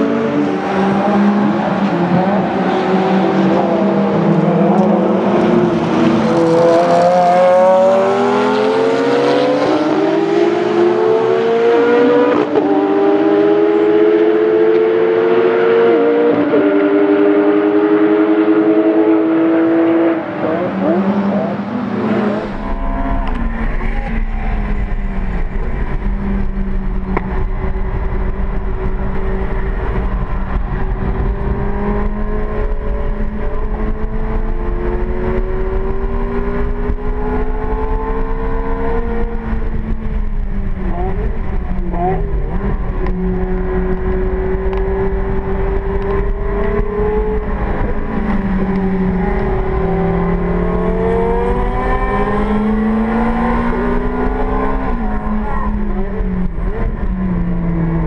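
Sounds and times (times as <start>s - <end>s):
racing engine revving: 0.0s - 58.0s.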